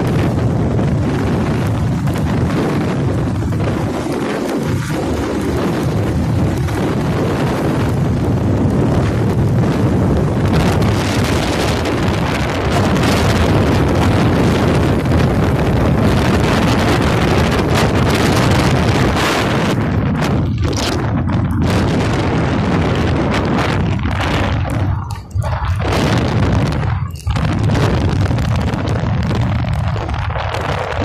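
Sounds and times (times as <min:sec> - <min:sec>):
motorcycle running: 0:00.0 - 0:31.0
road noise: 0:00.0 - 0:31.0
wind buffeting microphone: 0:00.0 - 0:31.0.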